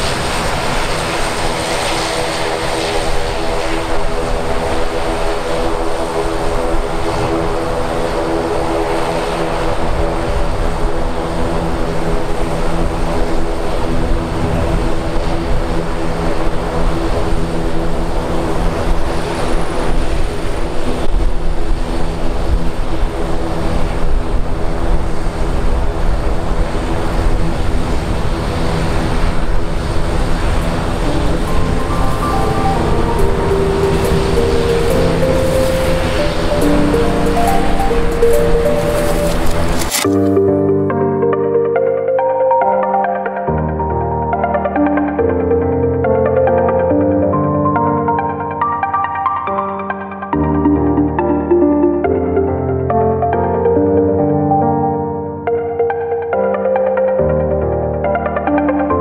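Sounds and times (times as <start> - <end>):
turboprop aircraft engine droning: 0.0 - 54.3.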